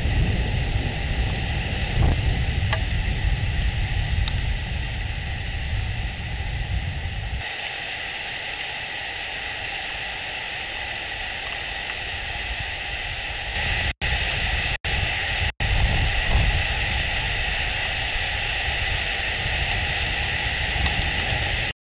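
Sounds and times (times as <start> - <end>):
faint steady hum: 0.0 - 21.7
wind: 0.0 - 21.7.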